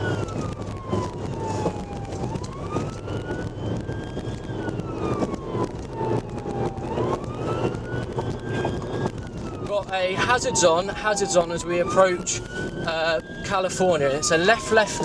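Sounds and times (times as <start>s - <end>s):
car engine and road noise: 0.0s - 15.0s
police siren wailing: 0.0s - 15.0s.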